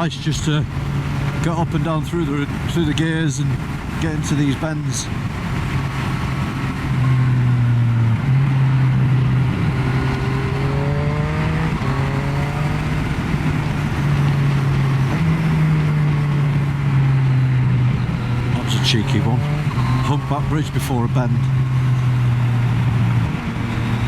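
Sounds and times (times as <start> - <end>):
wind noise: 0.6 - 24.0
motorcycle engine revving: 3.5 - 24.0.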